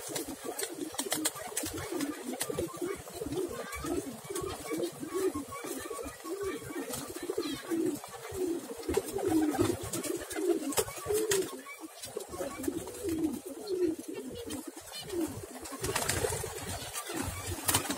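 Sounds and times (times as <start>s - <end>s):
pigeons cooing: 0.0s - 17.9s.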